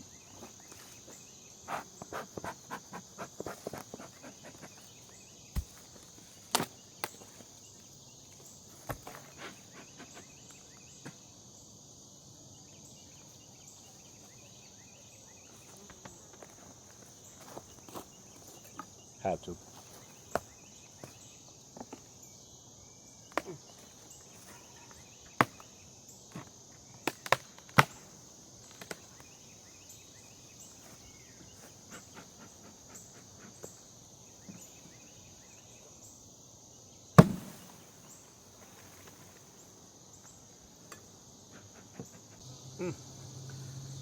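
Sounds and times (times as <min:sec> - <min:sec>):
insect drone: 0:00.0 - 0:44.0.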